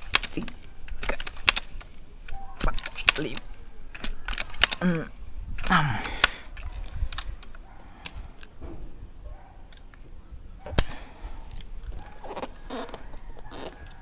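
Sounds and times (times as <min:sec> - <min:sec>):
handling clicks: 0:00.0 - 0:08.6, 0:09.7 - 0:14.0.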